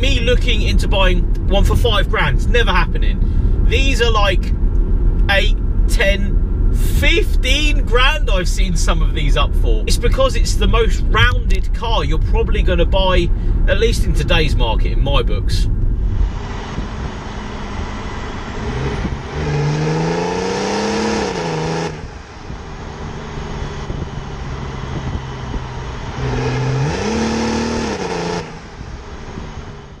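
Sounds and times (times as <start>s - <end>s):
diesel engine accelerating: 0.0s - 30.0s
road and wind noise: 0.0s - 30.0s.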